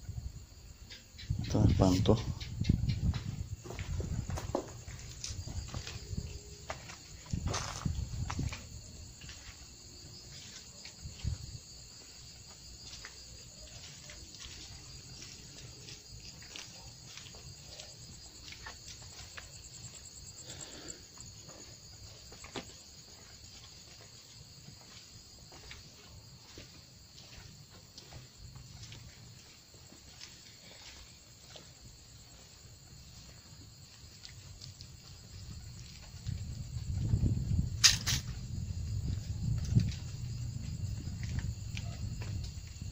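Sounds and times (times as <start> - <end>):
crickets chirping: 0.0 - 42.9
light footsteps: 1.8 - 42.9.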